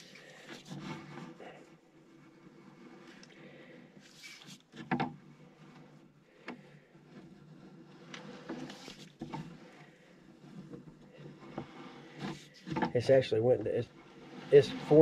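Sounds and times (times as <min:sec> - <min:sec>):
cable knocking and rubbing in pipe: 0:00.0 - 0:15.0.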